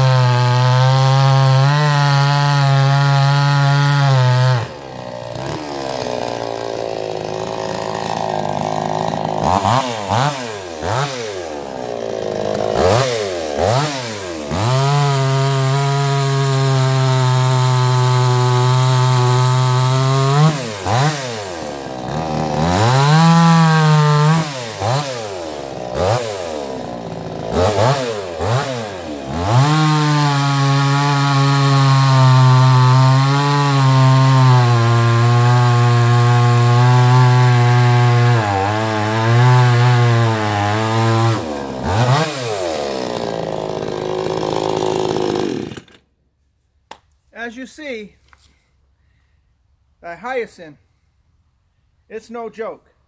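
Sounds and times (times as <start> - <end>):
chainsaw cutting logs: 0.0 - 46.2.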